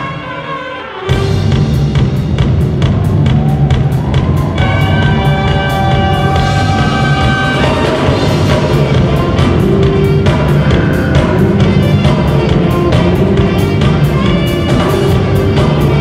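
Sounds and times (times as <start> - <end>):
held horn notes: 0.0 - 3.3, 4.0 - 16.0
jazz fusion band playing: 0.0 - 16.0.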